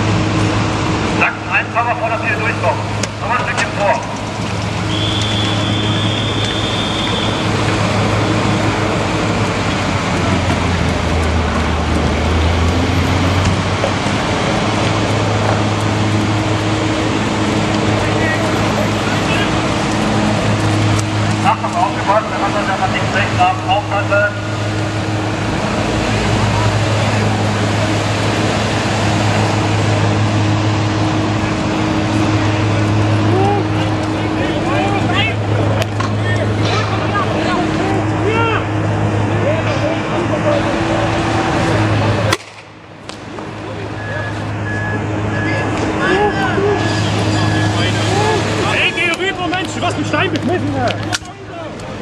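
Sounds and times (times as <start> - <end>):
dense rushing noise: 0.0 - 52.0
diesel engines droning: 0.0 - 52.0.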